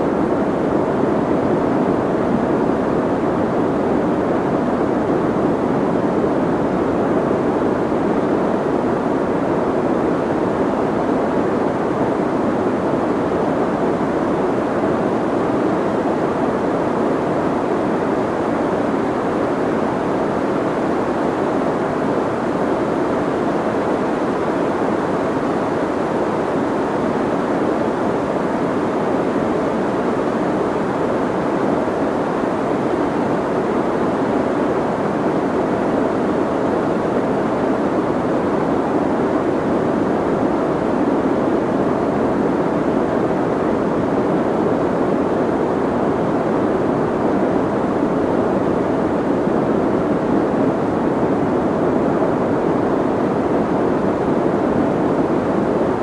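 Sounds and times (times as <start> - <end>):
soft white noise hiss: 0.0 - 56.0.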